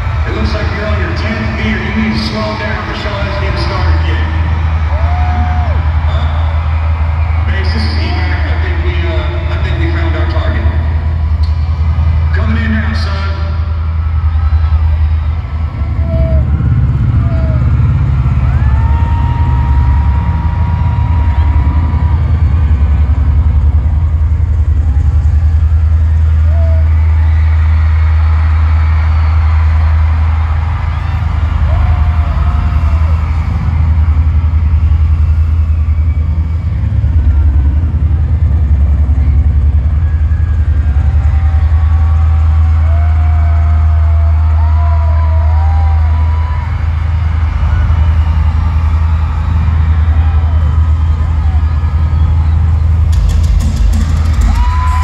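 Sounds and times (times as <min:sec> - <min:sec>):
overloaded arena sound system: 0:00.0 - 0:55.0
rapid pulsing low rumble: 0:00.0 - 0:55.0
helicopter rotor chop over loudspeakers: 0:05.8 - 0:55.0.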